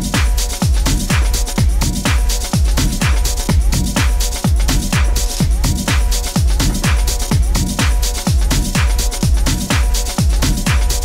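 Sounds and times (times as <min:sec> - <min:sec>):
electronic dance music: 0:00.0 - 0:11.0
kick drum beat: 0:00.0 - 0:11.0.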